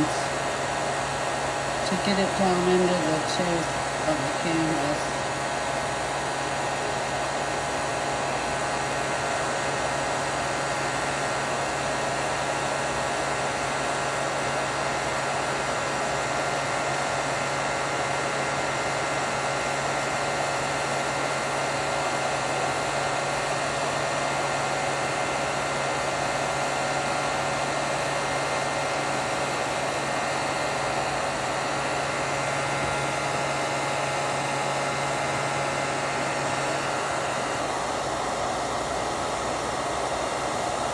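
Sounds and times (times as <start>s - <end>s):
heat tool blowing air: 0.0s - 40.9s.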